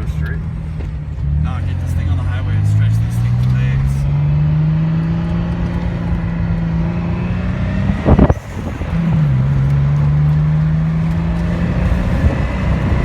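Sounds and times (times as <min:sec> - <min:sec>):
car engine from inside cabin: 0:00.0 - 0:13.0.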